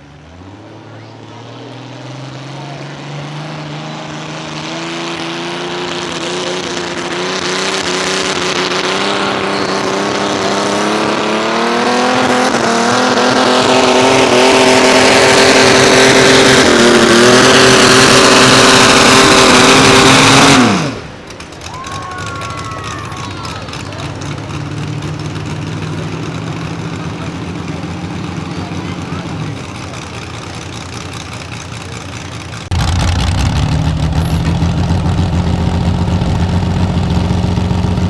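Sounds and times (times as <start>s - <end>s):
tractor engine running hard: 0.0s - 38.0s.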